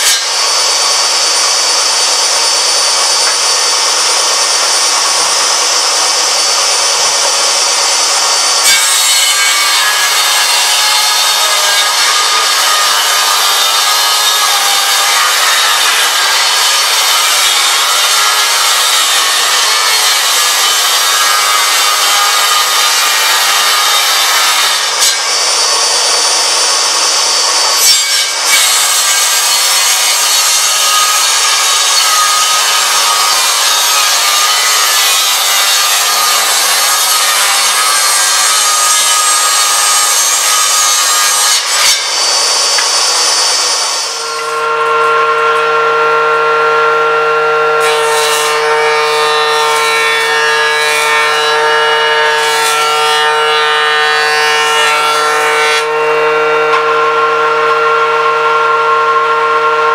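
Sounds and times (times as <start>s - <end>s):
table saw blade whine: 0.0s - 59.9s
table saw cutting wood: 0.0s - 59.9s.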